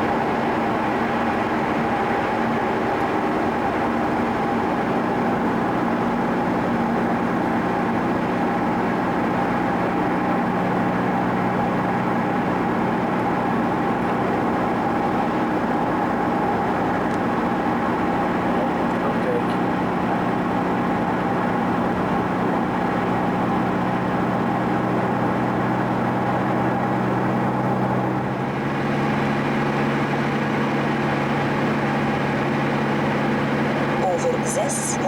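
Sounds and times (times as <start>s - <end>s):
car engine hum: 0.0s - 35.0s
road noise inside car: 0.0s - 35.0s.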